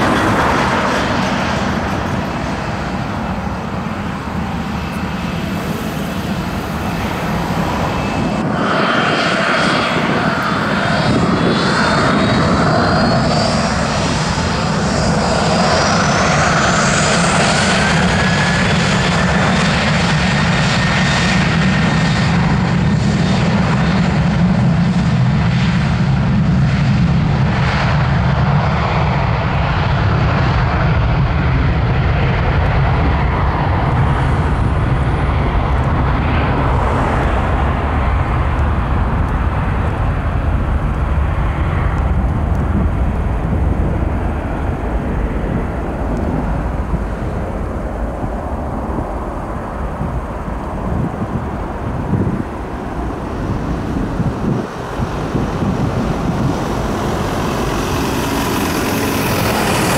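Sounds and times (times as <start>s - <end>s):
jet engine fan whine: 0.0s - 59.9s
jet engine rumble: 0.0s - 59.9s.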